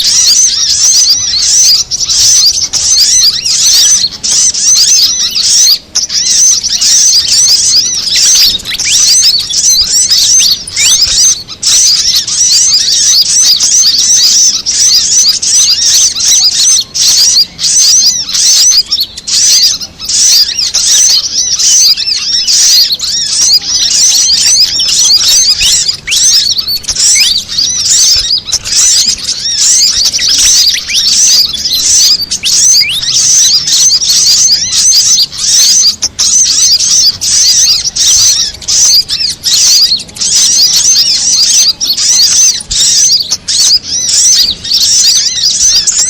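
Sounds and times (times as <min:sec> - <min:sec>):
high-pitched bird chirping: 0:00.0 - 0:46.0.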